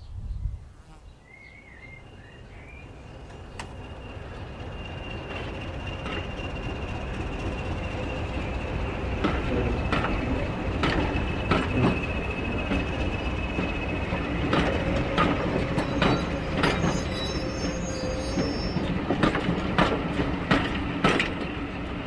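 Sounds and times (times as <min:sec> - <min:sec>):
model train wheels rumbling on rail: 0:02.9 - 0:22.0.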